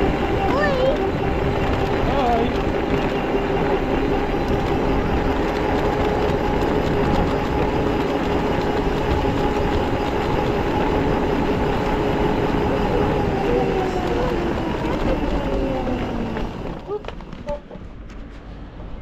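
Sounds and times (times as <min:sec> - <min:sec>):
quad bike engine droning: 0:00.0 - 0:19.0
road and wind noise: 0:00.0 - 0:19.0.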